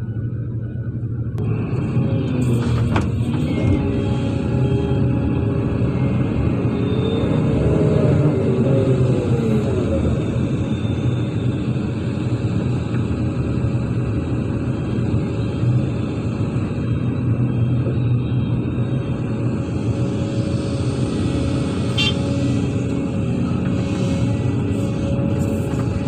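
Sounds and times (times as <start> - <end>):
heavy diesel engines running: 0.0 - 26.0.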